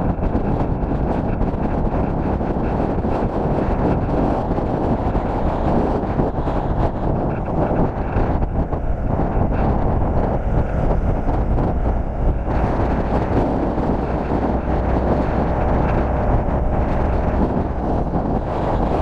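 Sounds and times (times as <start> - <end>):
longboard wheels rolling on asphalt: 0.0 - 19.0
wind on microphone: 0.0 - 19.0.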